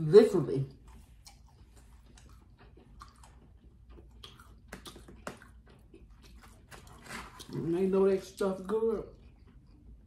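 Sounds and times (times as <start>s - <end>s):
wet chewing sounds: 0.7s - 10.0s.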